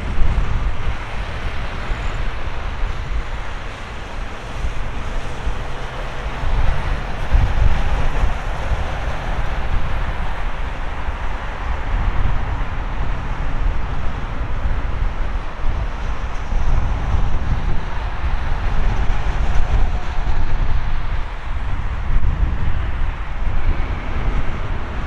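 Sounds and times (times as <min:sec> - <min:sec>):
jet airliner drone: 0:00.0 - 0:25.0
wind rumble on microphone: 0:00.0 - 0:25.0.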